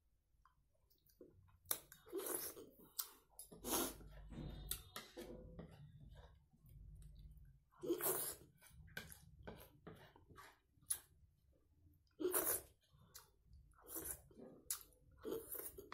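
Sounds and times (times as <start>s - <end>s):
mouth and chewing sounds: 0.9s - 4.9s, 6.0s - 11.2s, 12.0s - 15.9s.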